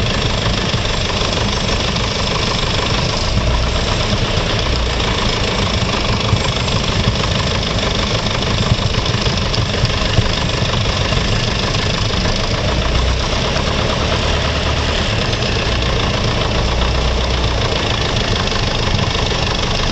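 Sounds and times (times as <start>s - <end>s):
propeller plane engine drone: 0.0s - 19.9s.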